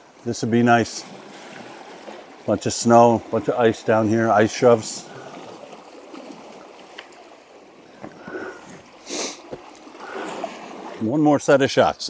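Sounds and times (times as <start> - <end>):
water splash: 0.0 - 11.2
water lapping against rocks: 0.0 - 11.4.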